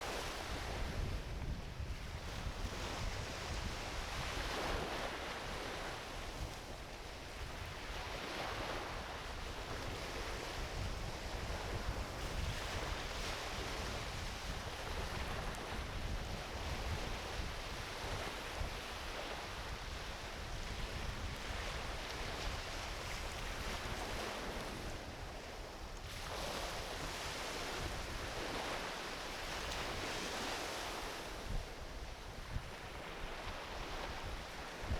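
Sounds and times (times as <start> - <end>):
ocean waves washing onto beach: 0.0 - 34.9
wind rumble on microphone: 0.0 - 34.9.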